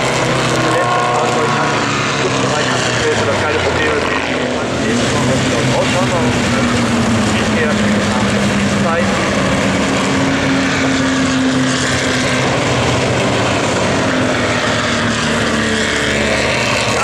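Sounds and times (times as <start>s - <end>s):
race cars passing: 0.0s - 17.0s.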